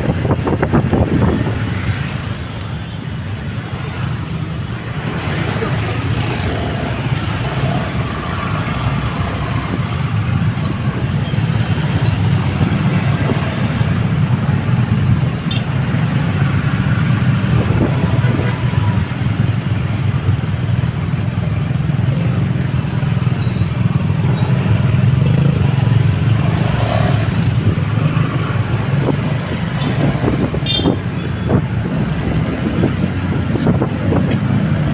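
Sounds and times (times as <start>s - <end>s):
traffic road noise: 0.0s - 34.9s.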